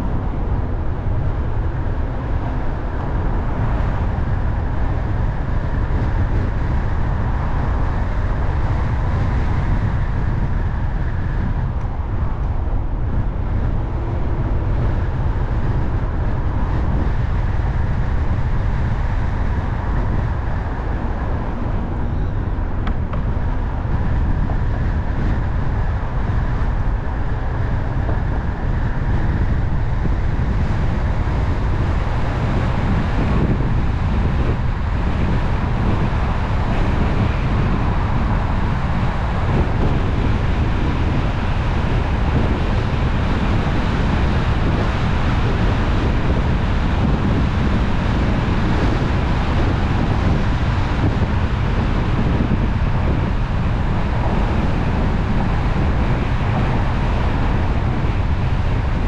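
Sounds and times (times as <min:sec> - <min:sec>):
tyres rumbling on road: 0:00.0 - 0:59.0
wind noise: 0:00.0 - 0:59.0.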